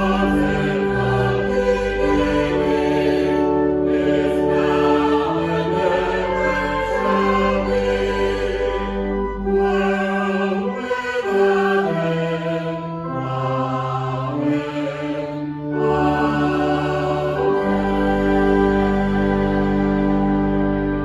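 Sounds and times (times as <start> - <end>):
choir-like voices: 0.0 - 21.0
slow music with held chords: 0.0 - 21.0.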